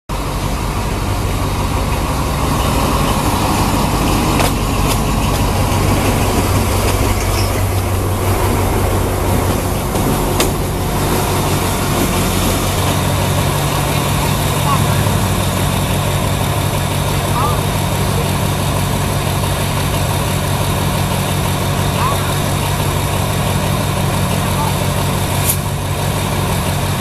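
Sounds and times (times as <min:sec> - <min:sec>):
diesel locomotive engine humming: 0:00.1 - 0:27.0.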